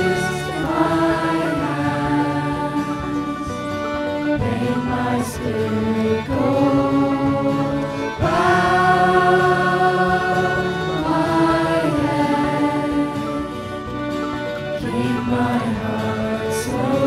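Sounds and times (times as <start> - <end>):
young voices singing in harmony: 0.0 - 14.0, 14.6 - 17.0.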